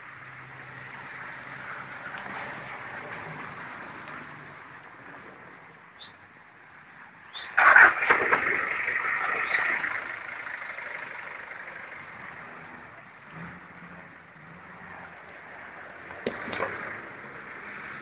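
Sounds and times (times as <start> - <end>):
vehicle passing on wet street: 0.0 - 6.0, 6.6 - 18.0.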